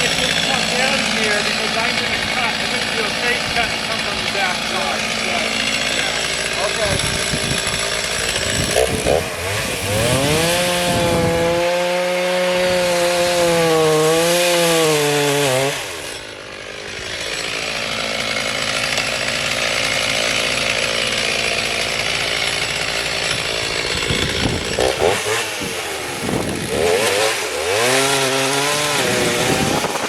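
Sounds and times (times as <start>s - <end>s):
chainsaw cutting tree trunk: 0.0s - 30.0s
chainsaw running: 0.0s - 30.0s.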